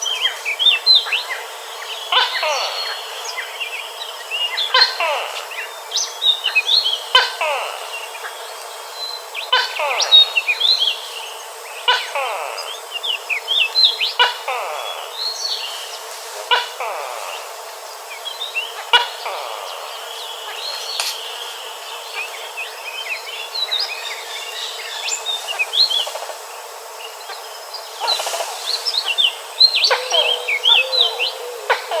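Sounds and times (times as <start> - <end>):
birds twittering: 0.0 - 26.3, 27.1 - 32.0.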